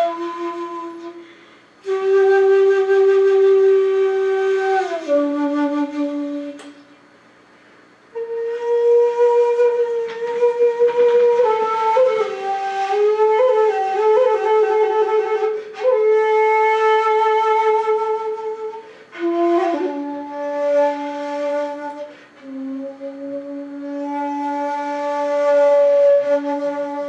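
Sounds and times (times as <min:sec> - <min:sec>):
bamboo flute melody: 0:00.0 - 0:06.9, 0:08.1 - 0:27.0
second bamboo flute: 0:00.0 - 0:07.2, 0:08.1 - 0:27.0.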